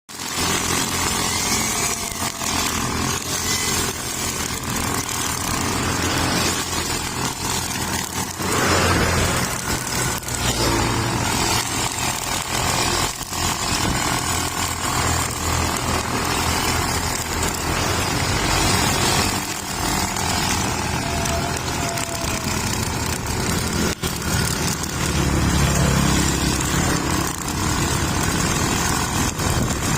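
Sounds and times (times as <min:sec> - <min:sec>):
string trimmer running: 0:00.1 - 0:29.9.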